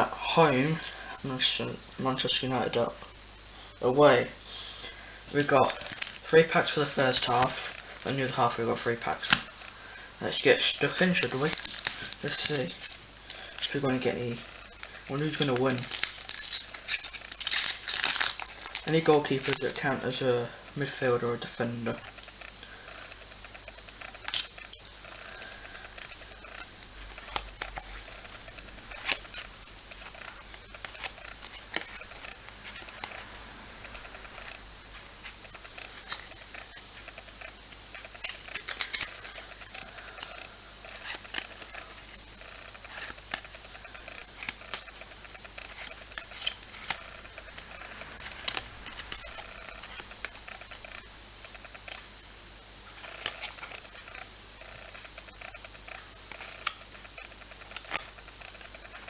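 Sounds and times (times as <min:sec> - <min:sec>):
foil packs crinkling: 0:04.7 - 0:59.0.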